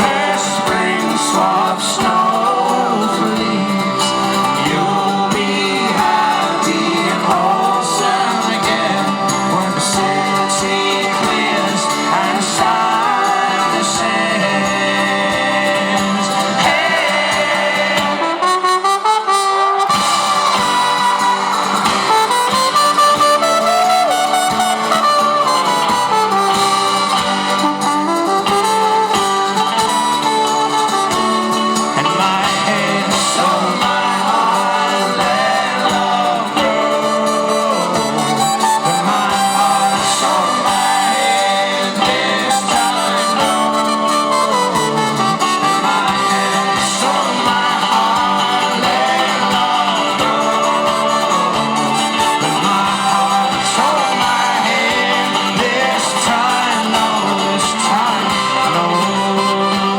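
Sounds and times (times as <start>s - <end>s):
brass melody: 0.0s - 59.9s.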